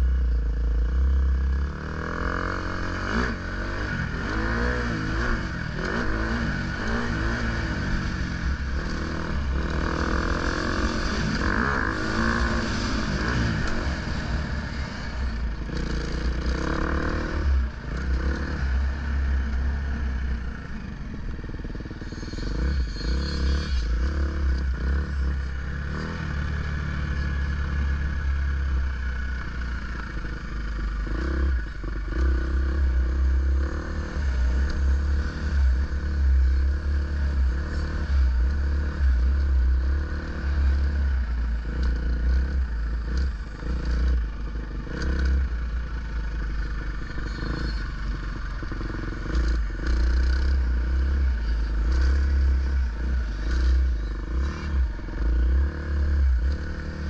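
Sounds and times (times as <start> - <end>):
dirt bike engine revving: 0.9 - 57.0.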